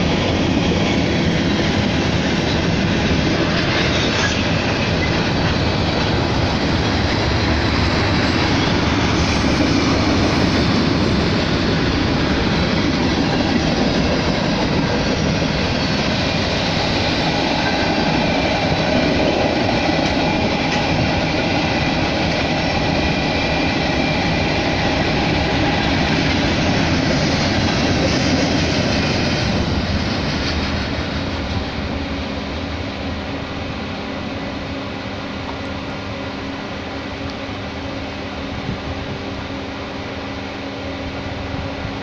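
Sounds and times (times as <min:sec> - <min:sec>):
freight train wheels rumbling on rails: 0:00.0 - 0:42.0.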